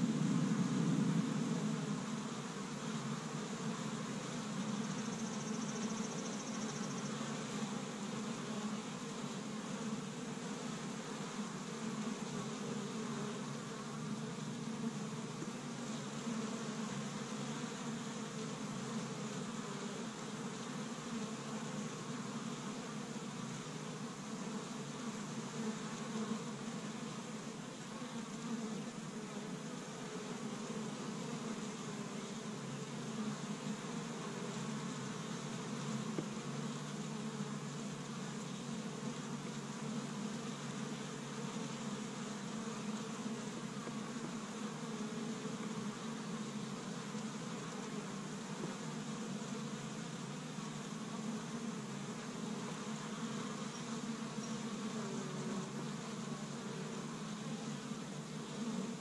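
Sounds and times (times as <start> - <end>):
bees buzzing at hive: 0.0 - 59.0
single bee flying past: 0.0 - 59.0.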